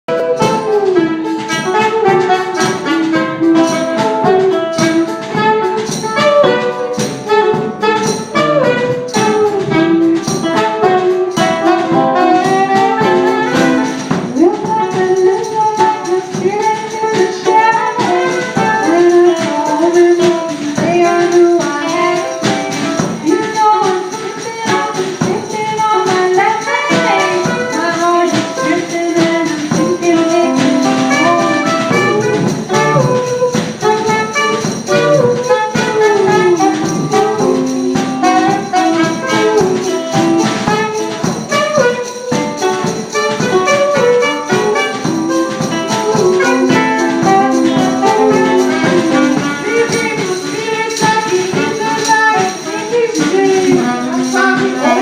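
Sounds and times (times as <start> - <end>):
live band playing upbeat song: 0.1 - 55.0.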